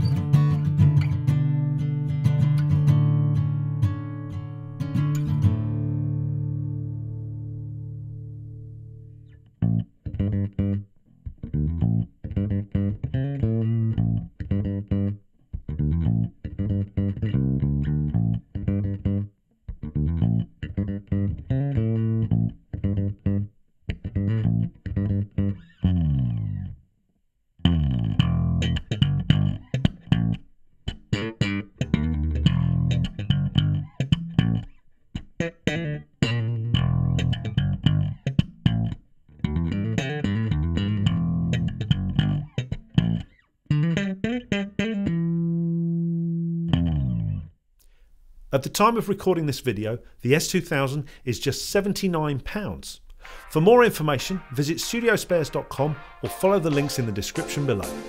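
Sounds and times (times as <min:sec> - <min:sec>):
electric bass plucked notes: 0:00.0 - 0:26.8, 0:27.6 - 0:47.6, 0:51.8 - 0:58.0.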